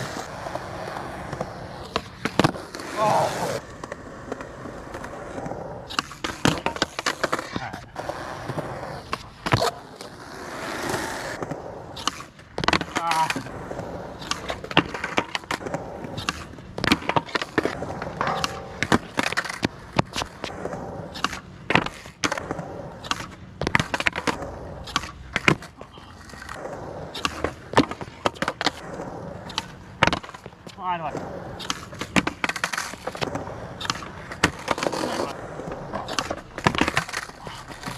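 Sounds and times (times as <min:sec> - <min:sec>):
skateboard cracks and clacks: 0:00.0 - 0:37.9
skateboard wheels rolling on concrete: 0:00.0 - 0:37.9.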